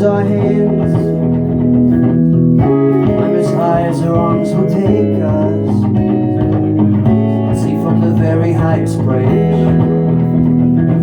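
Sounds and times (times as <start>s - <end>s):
ringing guitar chords: 0.0s - 11.0s.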